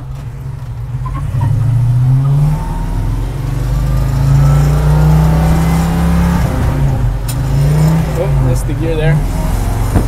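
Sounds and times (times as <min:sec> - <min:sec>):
truck engine accelerating through gears: 0:00.0 - 0:10.0.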